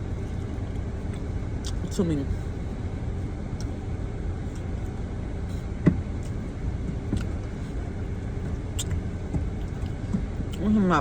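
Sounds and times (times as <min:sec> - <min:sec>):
car idling: 0:00.0 - 0:11.0.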